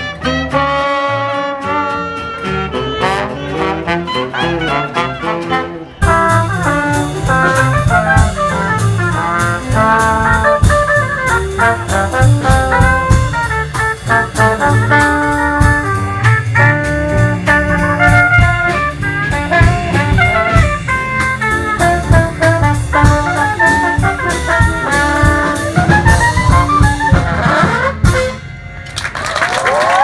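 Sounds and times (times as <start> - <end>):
drum kit beat: 0.0 - 28.5
brass horns playing jazz: 0.0 - 30.0.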